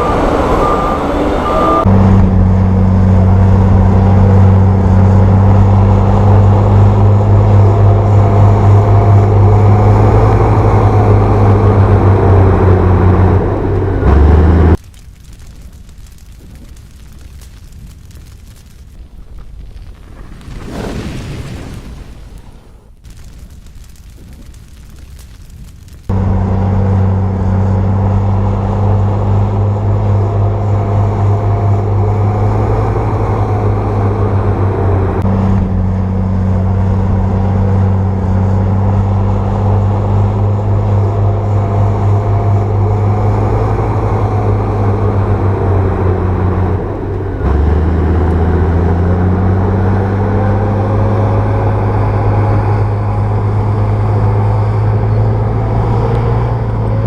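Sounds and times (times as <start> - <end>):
bulldozer engine droning: 0.0 - 14.8, 26.1 - 57.0.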